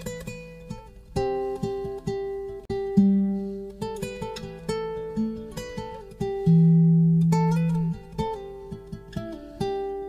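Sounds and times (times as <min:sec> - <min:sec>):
plucked string notes: 0:00.0 - 0:10.0.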